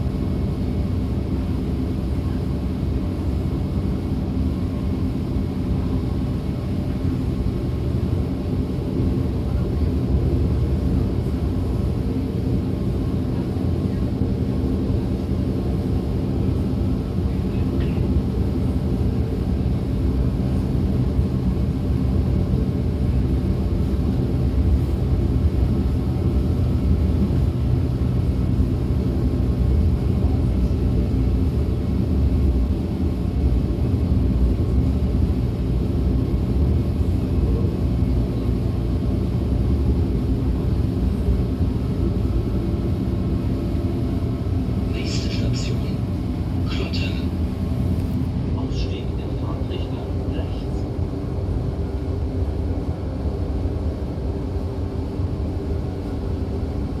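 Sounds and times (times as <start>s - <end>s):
train wheels rumbling with hum: 0.0s - 57.0s.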